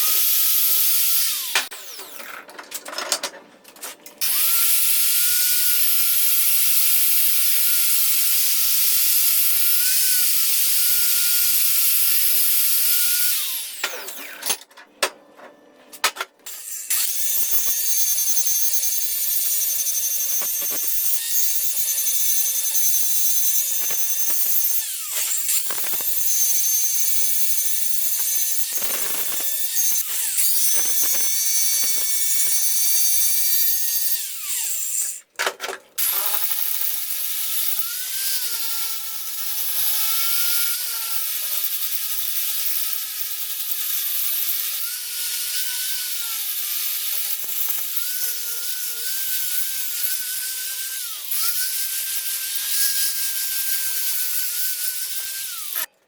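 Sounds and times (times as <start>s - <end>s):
angle grinder grinding steel: 0.0s - 2.4s, 4.2s - 14.6s, 16.5s - 35.3s, 36.0s - 56.0s.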